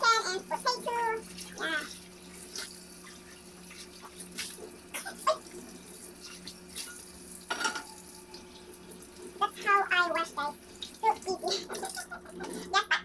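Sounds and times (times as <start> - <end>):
dishwasher hum: 0.0 - 13.0
water spraying in dishwasher: 0.0 - 13.0.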